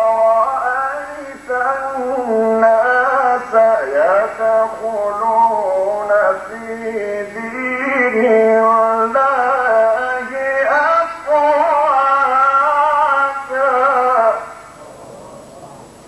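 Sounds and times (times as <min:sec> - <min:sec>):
man reciting melodically: 0:00.0 - 0:14.8.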